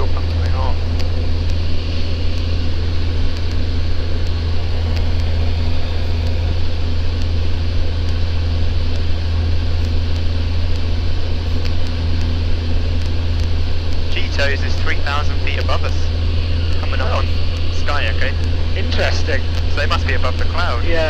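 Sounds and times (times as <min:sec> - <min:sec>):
aircraft piston engine droning: 0:00.0 - 0:21.0.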